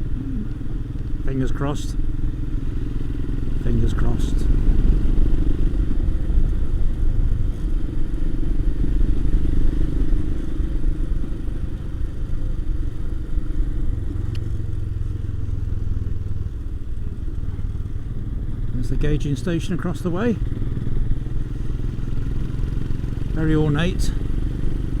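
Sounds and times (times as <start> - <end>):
motorcycle engine low rumble: 0.0 - 25.0.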